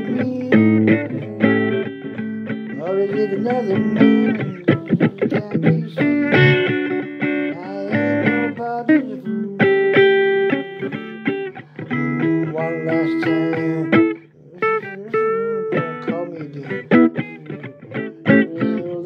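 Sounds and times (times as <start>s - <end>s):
blues guitar break: 0.0s - 19.0s.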